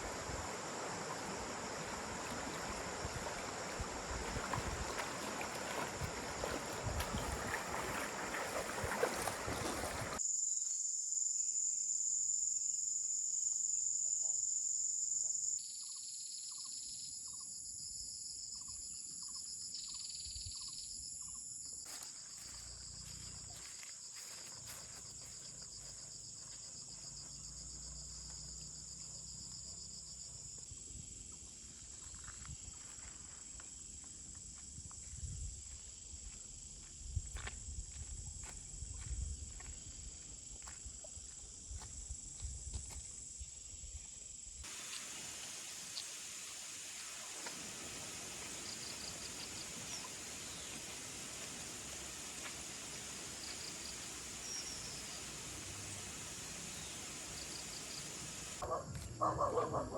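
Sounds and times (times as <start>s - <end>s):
insects and crickets droning: 0.0s - 59.9s.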